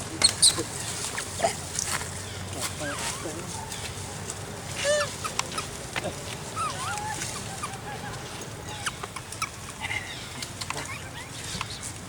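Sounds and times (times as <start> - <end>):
macaques squeaking and chirping: 0.2 - 1.5, 2.8 - 11.9.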